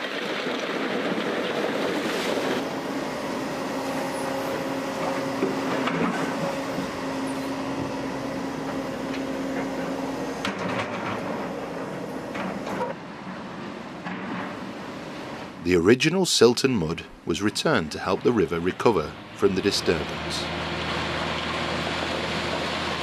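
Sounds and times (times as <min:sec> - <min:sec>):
excavator engine and hydraulics humming: 0:00.0 - 0:23.0
wash of noise: 0:00.0 - 0:23.0.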